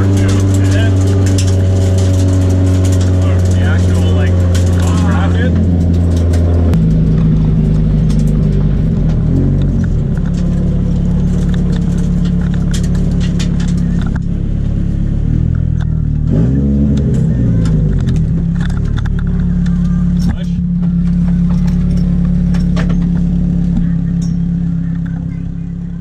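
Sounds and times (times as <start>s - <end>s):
clicks and rattles: 0.0s - 14.8s, 17.0s - 25.9s
car engine running: 0.0s - 26.0s.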